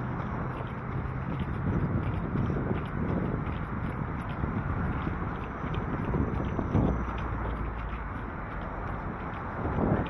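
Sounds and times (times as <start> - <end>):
running footsteps: 0.0 - 10.0
wind rumbling on microphone: 0.0 - 10.0.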